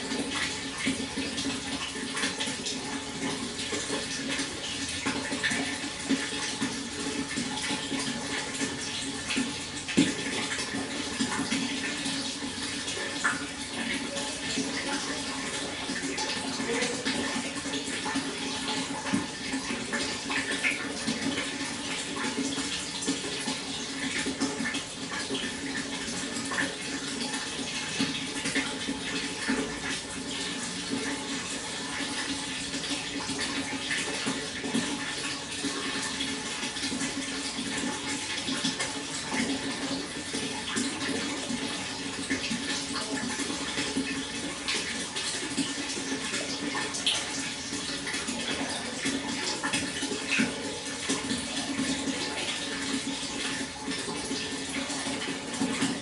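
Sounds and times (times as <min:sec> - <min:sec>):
water flowing with splashes: 0:00.0 - 0:56.0.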